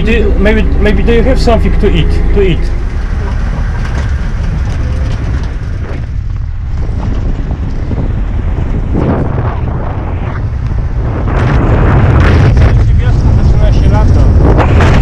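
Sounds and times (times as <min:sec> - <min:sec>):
engine and road rumble: 0:00.0 - 0:15.0
wind buffeting microphone: 0:00.0 - 0:15.0.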